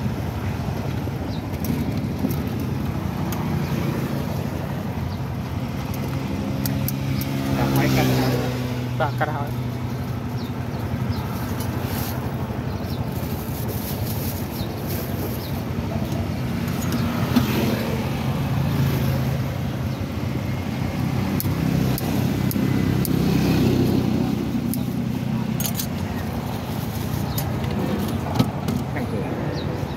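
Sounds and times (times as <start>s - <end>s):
road traffic hum: 0.0s - 29.9s.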